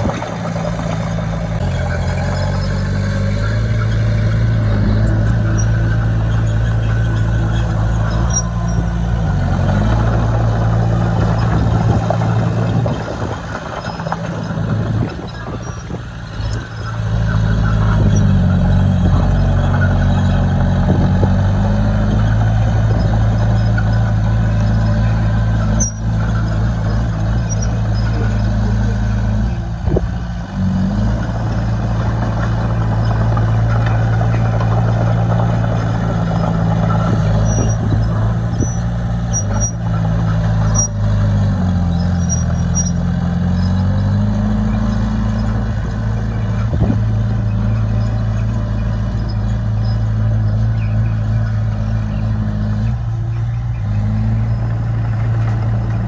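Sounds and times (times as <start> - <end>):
earthmover diesel engine working: 0.0 - 56.0.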